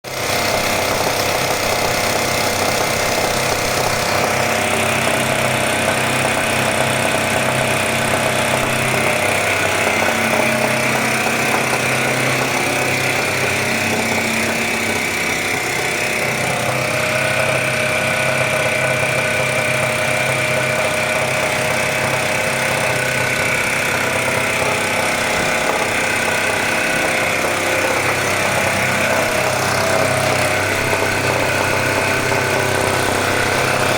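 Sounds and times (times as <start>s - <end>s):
diesel generator engine droning: 0.0s - 33.9s.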